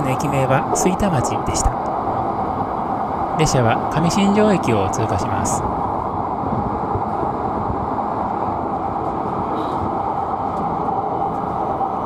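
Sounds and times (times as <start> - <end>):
faint steady whine: 0.0 - 12.0
wheels rumbling on rail: 0.0 - 12.0.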